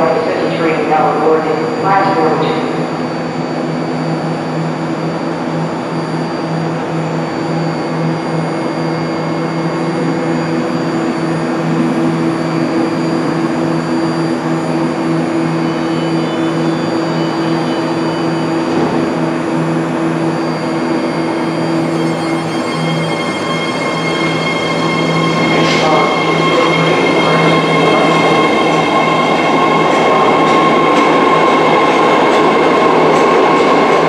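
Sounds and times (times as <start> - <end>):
electric train whirring hum: 0.0 - 34.0.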